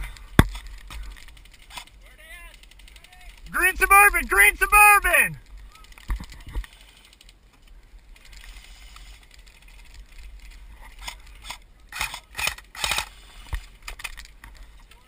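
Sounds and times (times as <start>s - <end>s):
rifle mechanical clicks and rattles: 0.0s - 3.6s, 5.4s - 15.0s.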